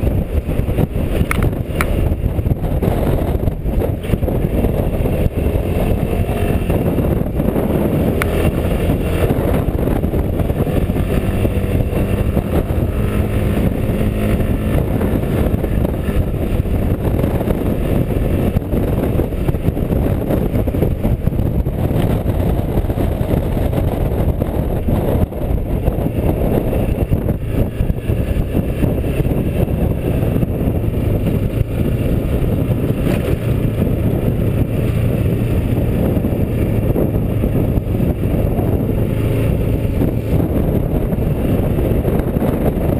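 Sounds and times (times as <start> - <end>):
scooter engine running: 0.0 - 42.9
wind and road noise: 0.0 - 42.9.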